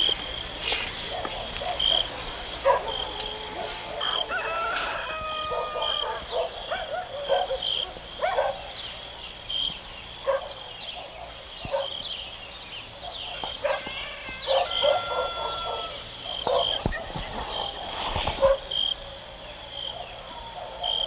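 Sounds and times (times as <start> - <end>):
animal calls: 0.0 - 8.8, 12.8 - 21.0.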